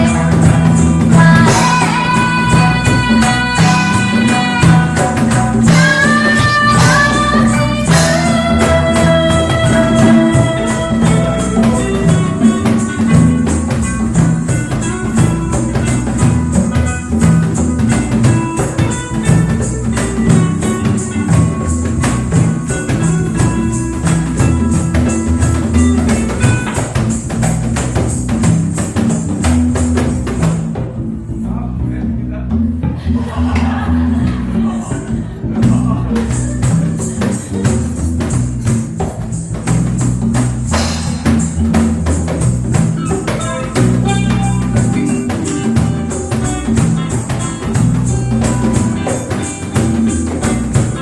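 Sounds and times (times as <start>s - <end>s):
live reggae band playing: 0.0s - 51.0s.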